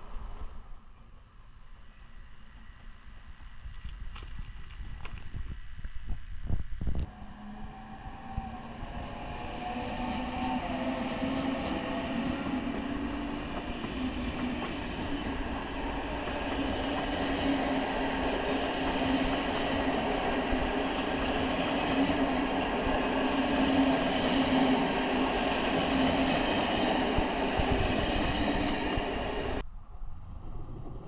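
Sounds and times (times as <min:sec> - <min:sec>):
train rumbling with low hum: 0:00.0 - 0:31.0.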